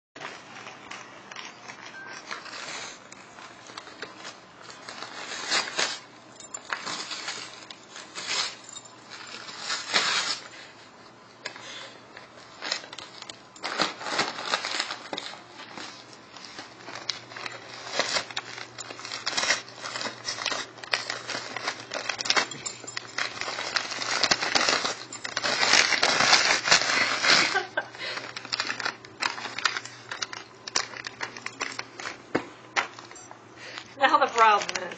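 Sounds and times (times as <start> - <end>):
paper and plastic crinkling: 0.2 - 34.9.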